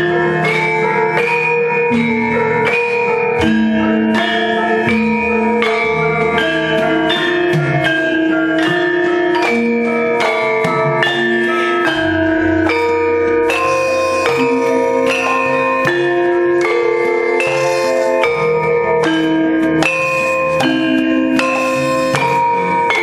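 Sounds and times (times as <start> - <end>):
gamelan metallophone playing: 0.0 - 23.0.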